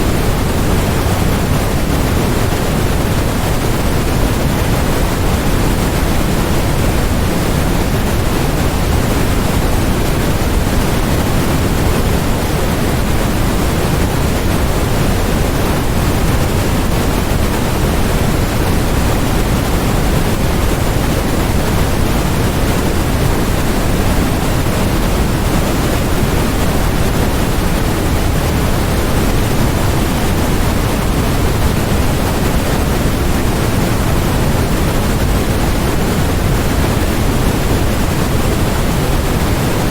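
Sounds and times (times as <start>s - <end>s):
steady synthetic noise hiss: 0.0s - 39.9s.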